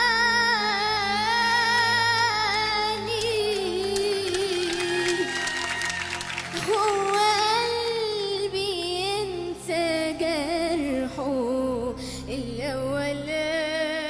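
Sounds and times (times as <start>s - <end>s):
woman singing with vibrato: 0.0s - 14.0s.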